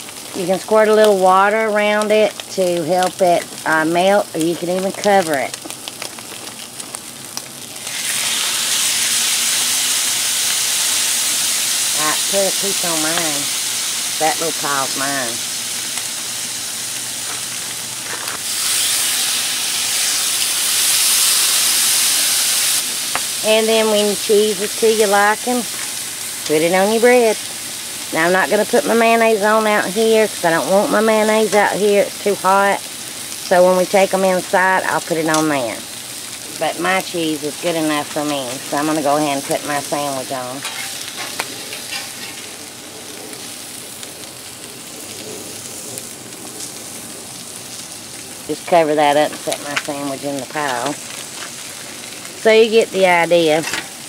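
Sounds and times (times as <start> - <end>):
pork sizzling on griddle: 0.0 - 54.0.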